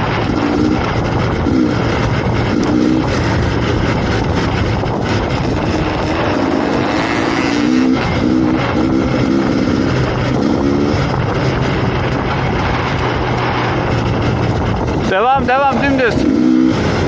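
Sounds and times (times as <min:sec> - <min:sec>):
dirt bike engine running: 0:00.0 - 0:17.0
rushing noise: 0:00.0 - 0:17.0.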